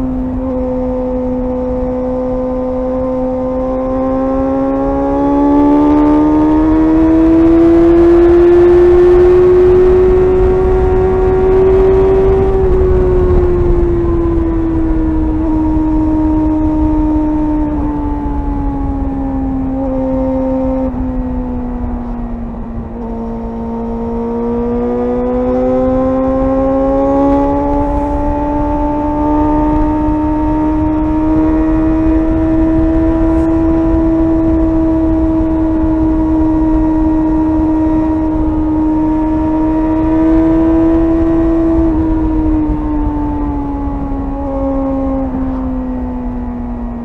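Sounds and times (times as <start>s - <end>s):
low wind rumble: 0.0s - 47.0s
motorcycle engine at high revs: 0.0s - 47.0s.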